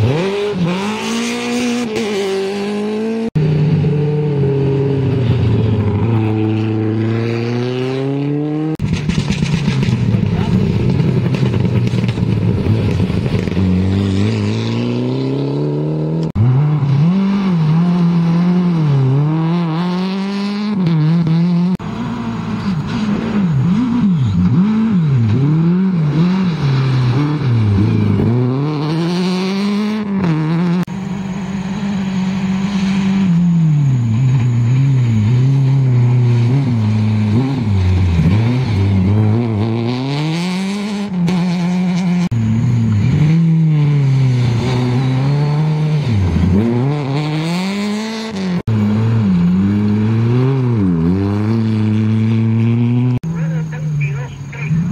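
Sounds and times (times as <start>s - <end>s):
rally car engines revving: 0.0s - 54.9s.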